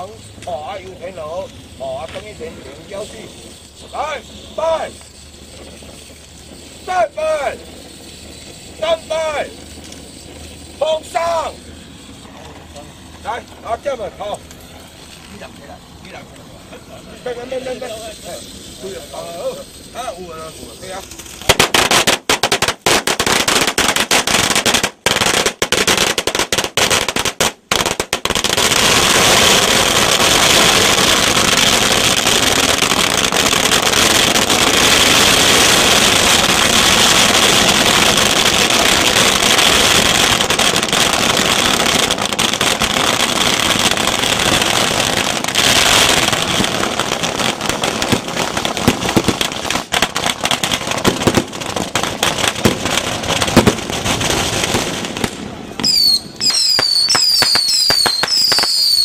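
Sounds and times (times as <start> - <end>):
firecrackers banging: 0.0 - 59.0.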